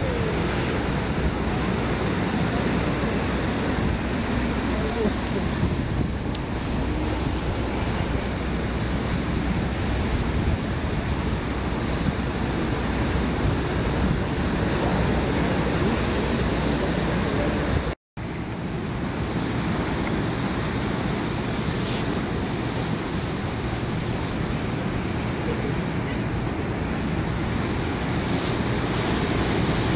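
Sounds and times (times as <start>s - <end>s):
surf breaking on beach: 0.0s - 18.0s, 19.0s - 29.9s
wind on microphone: 0.0s - 29.9s.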